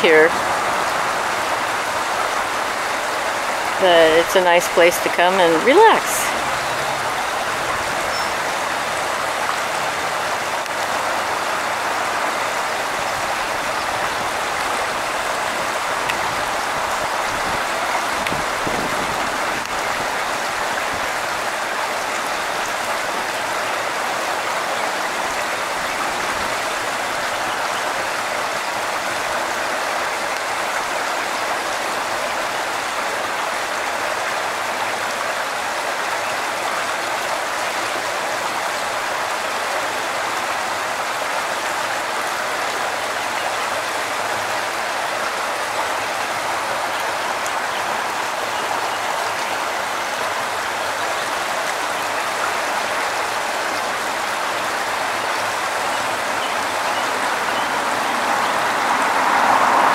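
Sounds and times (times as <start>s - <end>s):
waterfall splashing into pool: 0.0s - 59.9s.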